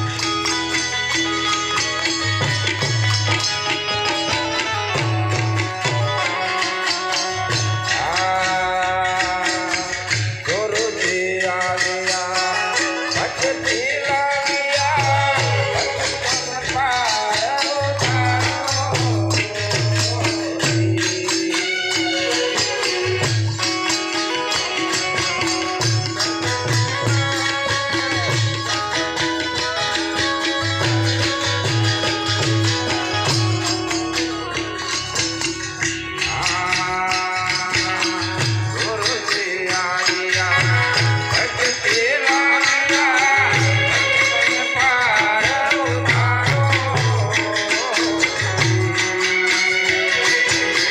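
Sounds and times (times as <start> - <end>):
jingling hand percussion: 0.0 - 50.9.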